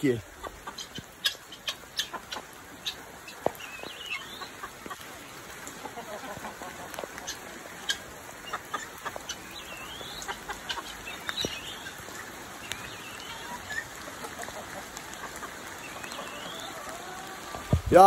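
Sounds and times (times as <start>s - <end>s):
chickens calling: 0.0s - 18.0s
heavy rain falling: 0.0s - 18.0s.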